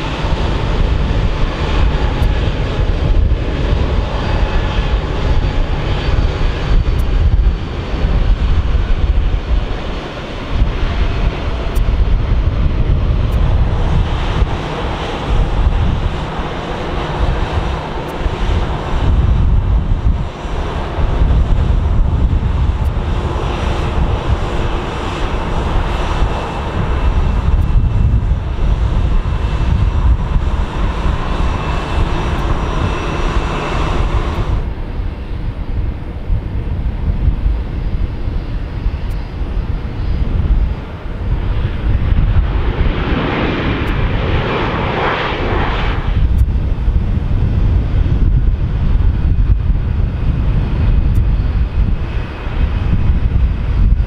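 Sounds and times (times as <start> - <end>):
jet engines rumbling with whine: 0.0 - 54.0.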